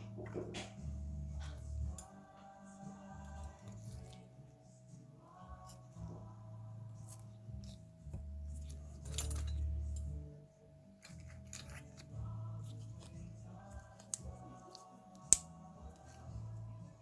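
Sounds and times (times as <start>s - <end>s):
background music with low notes: 0.0s - 17.0s.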